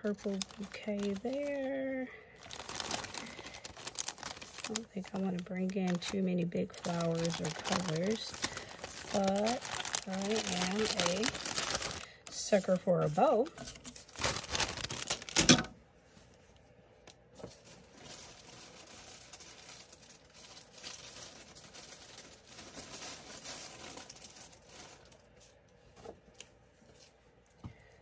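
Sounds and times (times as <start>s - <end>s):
plastic packaging crinkling: 0.0s - 15.7s, 17.4s - 27.2s.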